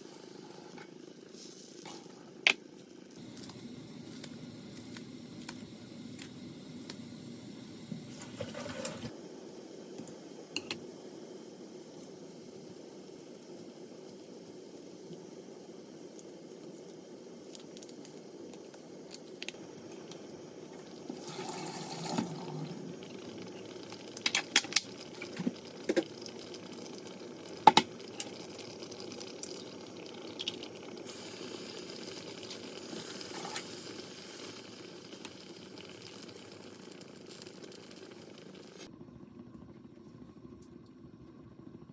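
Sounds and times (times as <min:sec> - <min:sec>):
liquid bubbling on stove: 0:00.0 - 0:41.9.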